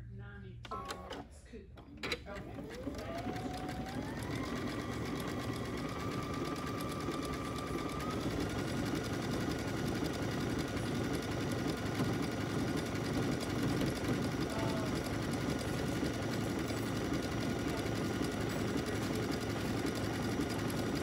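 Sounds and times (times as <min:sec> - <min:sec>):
sewing machine motor whine: 0:02.2 - 0:21.0.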